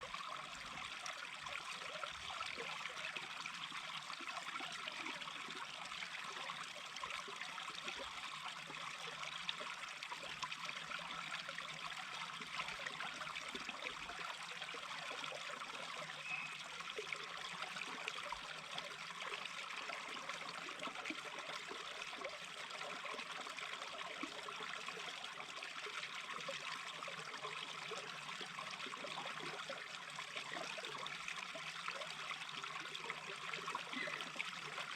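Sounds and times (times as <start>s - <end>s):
stream babbling over stones: 0.0s - 34.9s.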